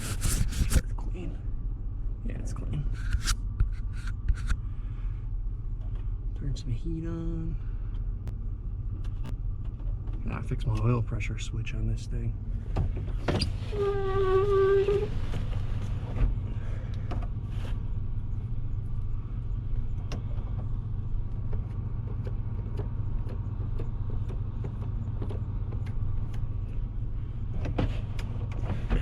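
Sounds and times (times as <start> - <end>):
truck engine idling: 4.6 - 29.0.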